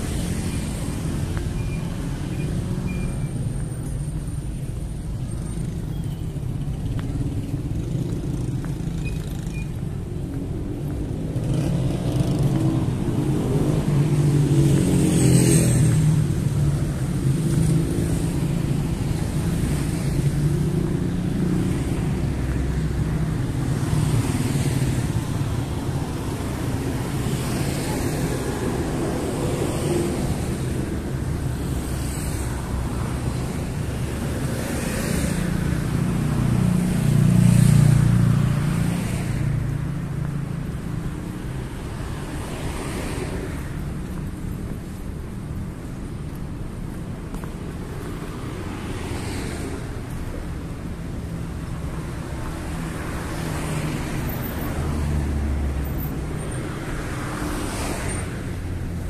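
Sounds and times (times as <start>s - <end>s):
cars driving by: 0.0s - 59.0s.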